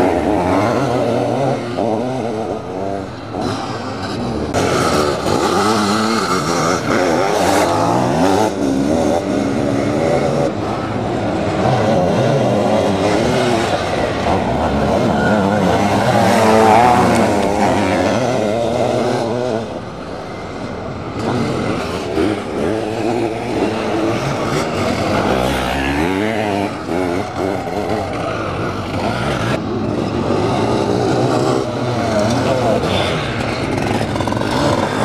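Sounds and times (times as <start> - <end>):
motocross engines revving: 0.0 - 35.0.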